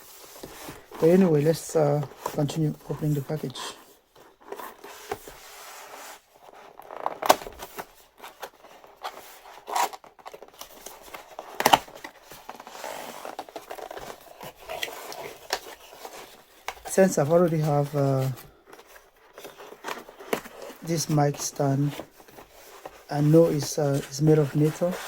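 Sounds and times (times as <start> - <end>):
packaging rustling and tearing: 0.0 - 25.0.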